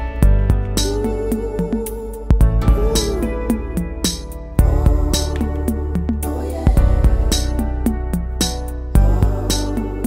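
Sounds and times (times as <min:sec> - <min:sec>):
heavy bass hit: 0:00.0 - 0:09.6
background music with steady beat: 0:00.0 - 0:10.0.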